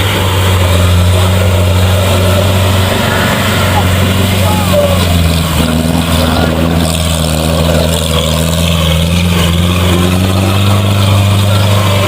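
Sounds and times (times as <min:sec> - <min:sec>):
off-road vehicle engine humming: 0:00.0 - 0:12.0.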